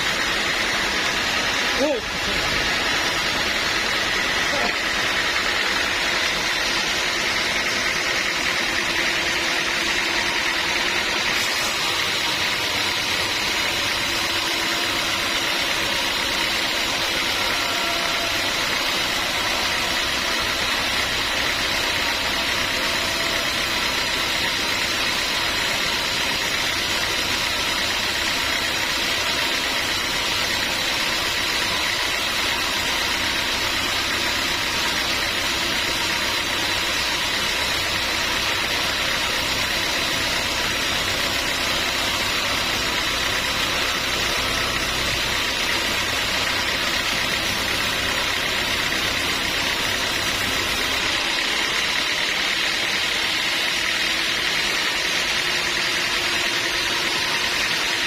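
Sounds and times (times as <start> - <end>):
sawmill machinery whining: 0.0 - 58.0.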